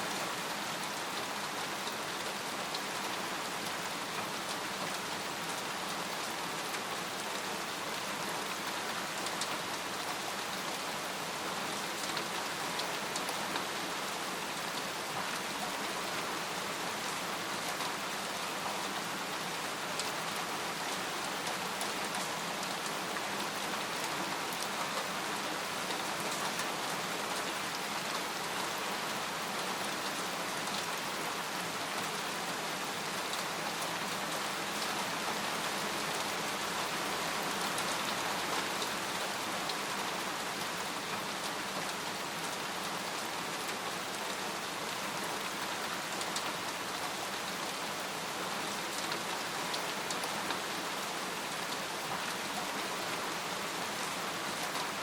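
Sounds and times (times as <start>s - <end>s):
rain hissing on a tent: 0.0s - 55.0s.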